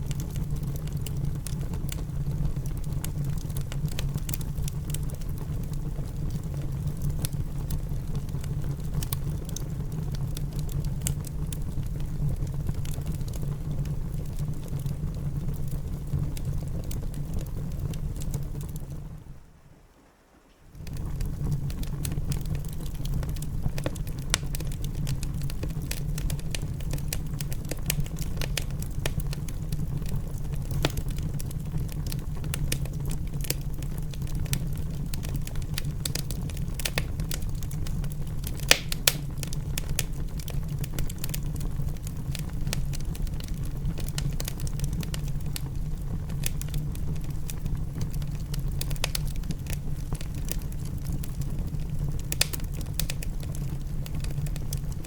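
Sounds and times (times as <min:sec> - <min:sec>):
wood fire crackling and popping: 0:00.0 - 0:19.4, 0:20.5 - 0:55.0.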